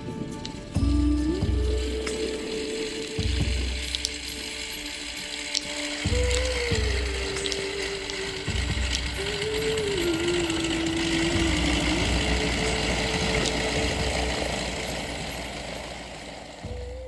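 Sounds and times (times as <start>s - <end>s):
biplane engine droning: 0.0s - 17.0s
rushing haze: 0.0s - 17.0s.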